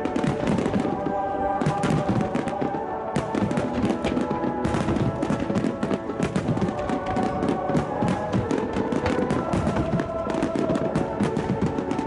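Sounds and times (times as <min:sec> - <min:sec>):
fireworks bursting and crackling: 0:00.0 - 0:12.0
music with sustained tones: 0:00.0 - 0:12.0.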